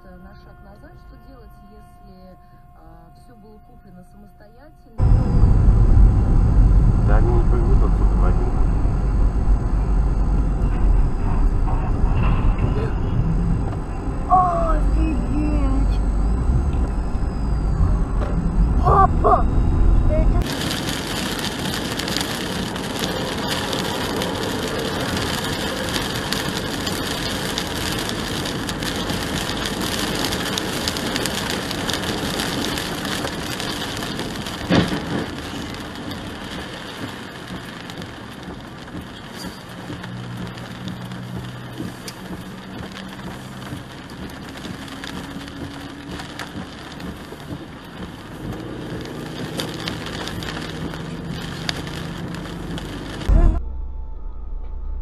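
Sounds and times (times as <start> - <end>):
low steady hum: 0.0 - 37.9, 38.5 - 55.0
rain and tyres on wet road: 5.0 - 53.6.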